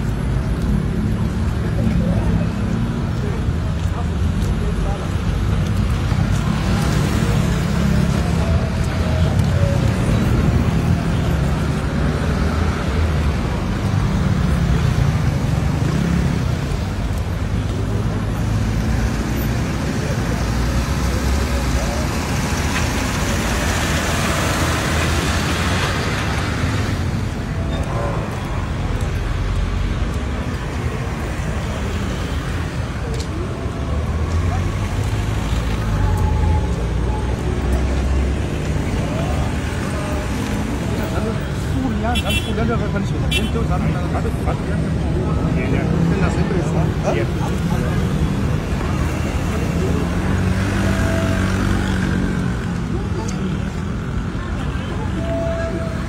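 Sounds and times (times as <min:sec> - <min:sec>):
faint crowd voices: 0:00.0 - 0:56.0
traffic rumble: 0:00.0 - 0:56.0.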